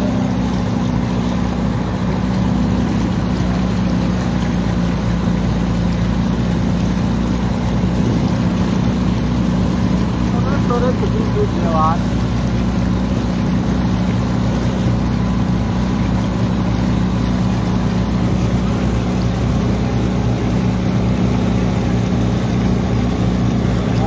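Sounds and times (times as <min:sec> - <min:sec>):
motor boat engine droning: 0:00.0 - 0:24.0
water washing past hull: 0:00.0 - 0:24.0.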